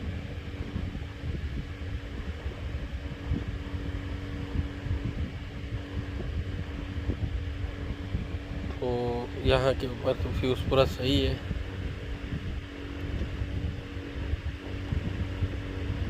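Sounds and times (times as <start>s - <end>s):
low mechanical fan hum: 0.0s - 16.0s.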